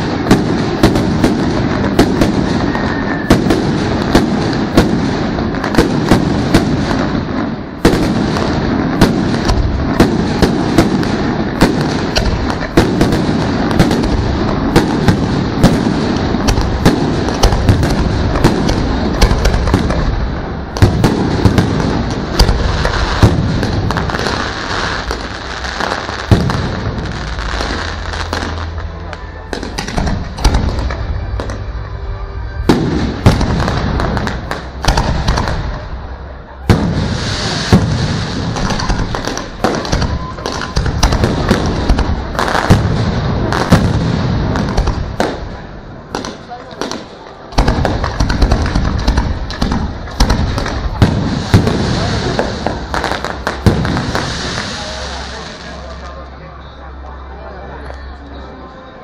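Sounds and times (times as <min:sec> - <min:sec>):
sharp firework bangs: 0:00.0 - 0:28.7, 0:29.5 - 0:31.6, 0:32.6 - 0:36.0, 0:36.6 - 0:55.5
fireworks rumble and crackle: 0:00.0 - 0:59.0.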